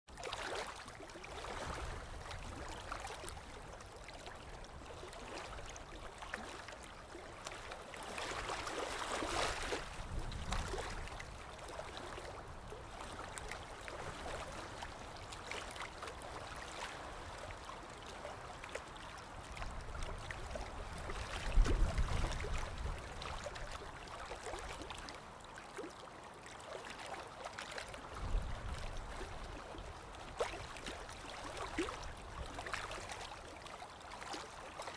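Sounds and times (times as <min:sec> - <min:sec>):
water lapping and gurgling: 0:00.1 - 0:34.9
wind: 0:00.1 - 0:34.9.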